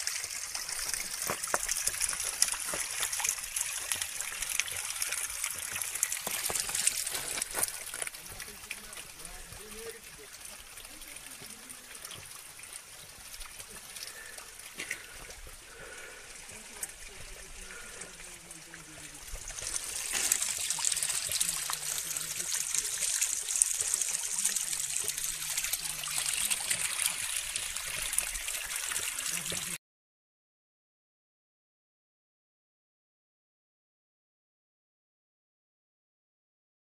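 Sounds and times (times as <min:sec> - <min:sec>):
water pouring into a pool: 0:00.0 - 0:29.8.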